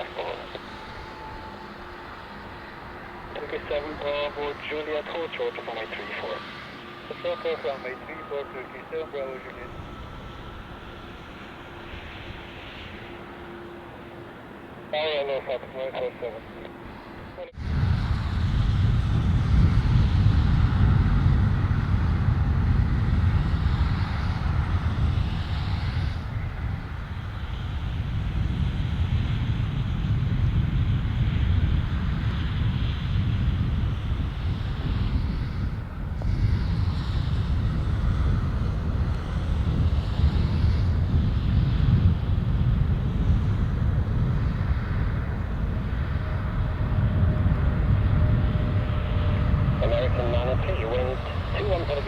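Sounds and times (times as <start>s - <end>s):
jet engines rumbling: 0.0s - 52.0s
wind rumbling on microphone: 0.0s - 52.0s.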